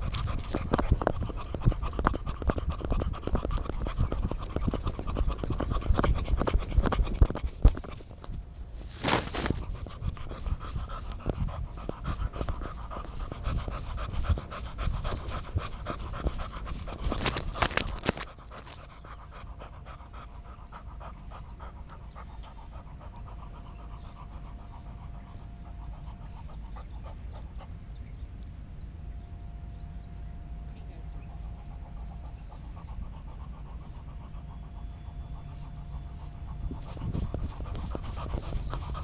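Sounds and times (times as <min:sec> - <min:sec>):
dog panting: 0:00.0 - 0:28.2, 0:30.6 - 0:39.0.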